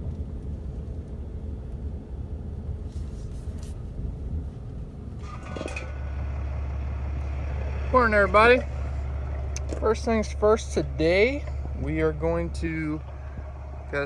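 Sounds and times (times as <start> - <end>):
truck engine low rumble: 0.0 - 14.0.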